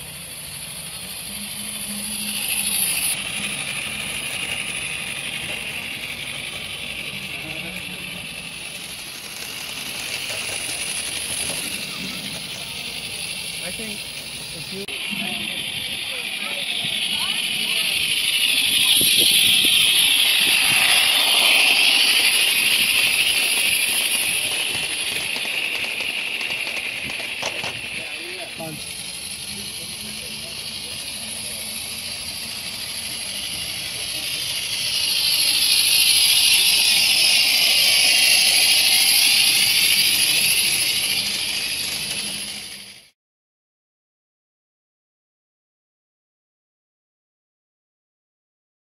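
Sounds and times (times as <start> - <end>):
steam locomotive hissing: 0.0 - 43.1
train wheels clattering on rails: 0.0 - 43.1.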